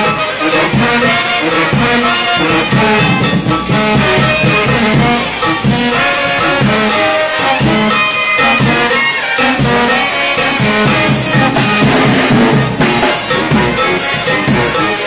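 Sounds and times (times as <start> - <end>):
drums keeping a beat: 0.0 - 15.0
sousaphone bass line: 0.0 - 15.0
trumpets and trombones: 0.0 - 15.0.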